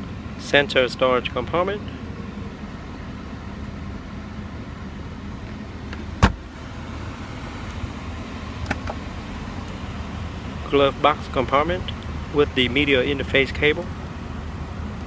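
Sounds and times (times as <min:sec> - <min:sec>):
low hum in car cabin: 0:00.0 - 0:15.0.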